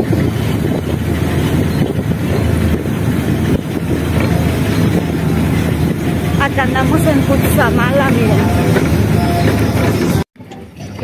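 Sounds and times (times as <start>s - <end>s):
car engine and road noise: 0.0s - 11.0s
wind on microphone: 0.0s - 11.0s.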